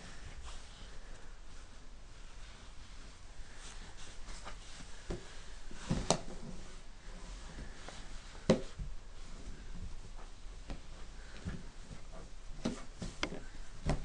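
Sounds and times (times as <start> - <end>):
bedding rustling: 0.0 - 14.0.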